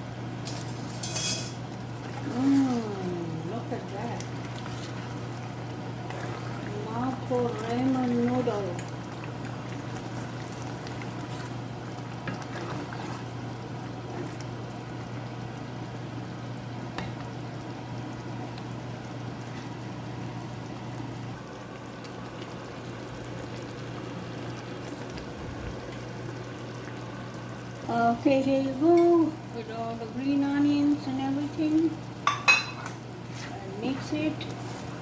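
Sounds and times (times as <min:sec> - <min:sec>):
noodles bubbling and sizzling: 0:00.0 - 0:35.0.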